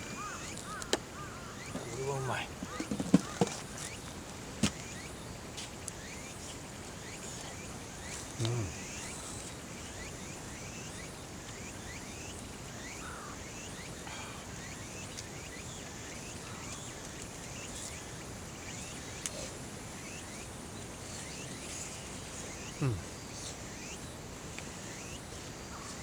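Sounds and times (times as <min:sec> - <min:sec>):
insects hissing: 0:00.0 - 0:04.0, 0:06.0 - 0:24.1.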